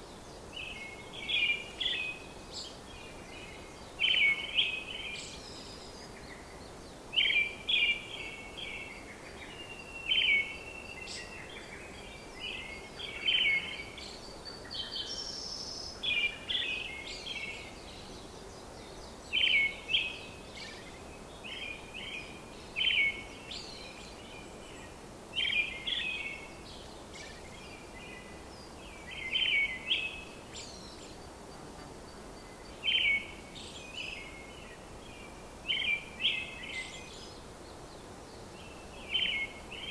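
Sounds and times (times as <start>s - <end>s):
faint outdoor hiss: 0.0s - 39.9s
small birds chirping: 0.0s - 39.9s.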